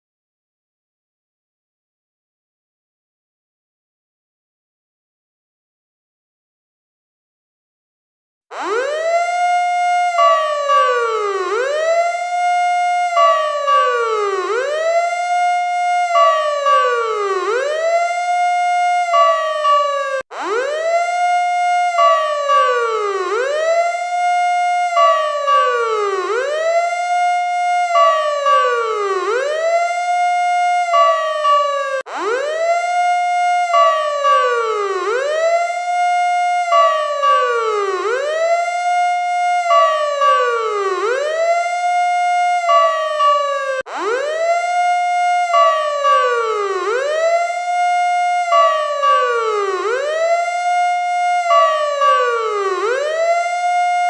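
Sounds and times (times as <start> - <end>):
electronic emergency siren: 8.5 - 54.0.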